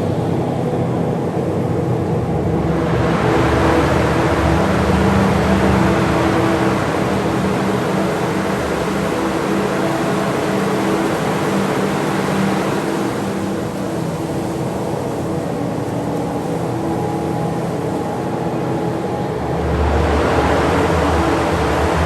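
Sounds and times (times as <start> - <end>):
blowers rushing air and hum: 0.0 - 22.0.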